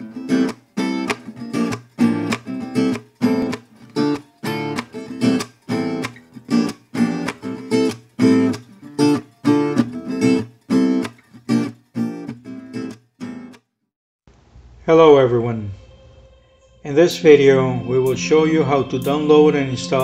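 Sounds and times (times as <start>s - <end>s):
acoustic guitar strumming chords: 0.0s - 13.6s, 17.0s - 20.0s.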